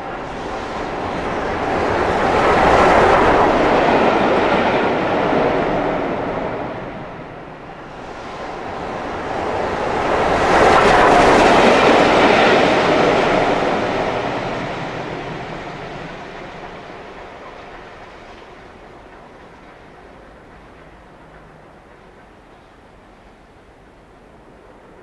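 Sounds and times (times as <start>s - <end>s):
steam train passing: 0.0s - 25.0s.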